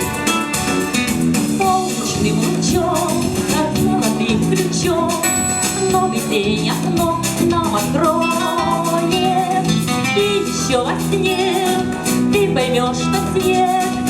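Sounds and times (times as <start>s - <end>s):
instrumental pop music: 0.0s - 14.0s.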